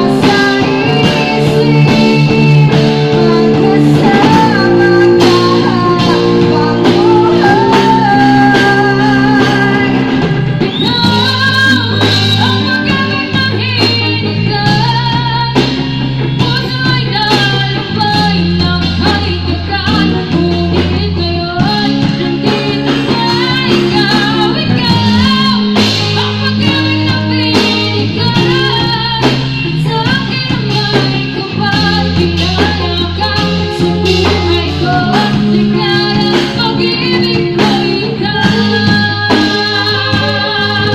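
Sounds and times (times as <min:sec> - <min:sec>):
drum kit: 0:00.0 - 0:40.9
electric bass: 0:00.0 - 0:40.9
electric guitar: 0:00.0 - 0:40.9
woman singing into microphone: 0:00.0 - 0:40.9.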